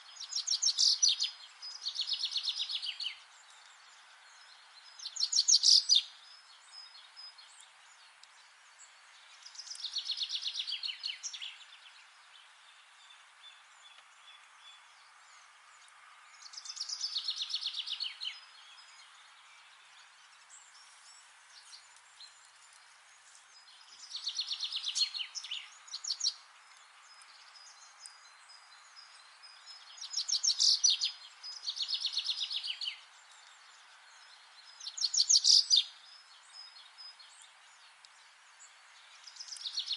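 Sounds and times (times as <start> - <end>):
faint bird chirps: 0.0 - 39.9
songbird singing: 0.0 - 39.9
steady soft hiss: 0.0 - 39.9.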